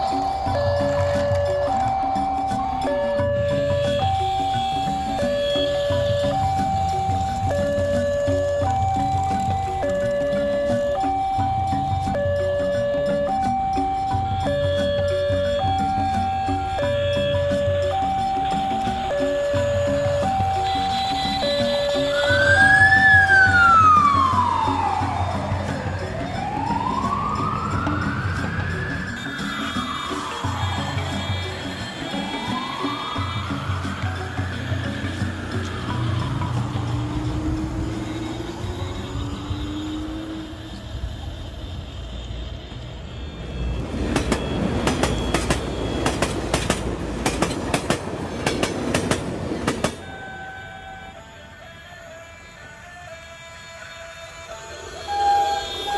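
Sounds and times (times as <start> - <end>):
background music with steady beat: 0.0 - 41.9, 43.0 - 55.9
siren-like wailing tone: 0.0 - 49.1, 49.9 - 55.9.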